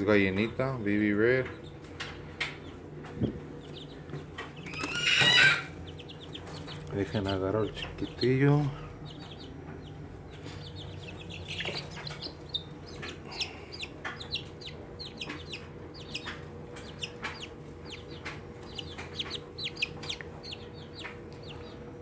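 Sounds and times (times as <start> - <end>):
chicks peeping: 0.0 - 22.0
faint steady hum: 0.0 - 22.0.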